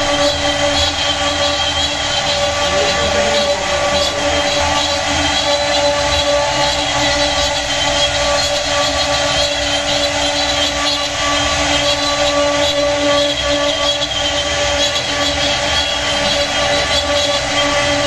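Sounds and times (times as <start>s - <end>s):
rough wood cutting noise: 0.0s - 18.0s
router spindles whining: 0.0s - 18.0s.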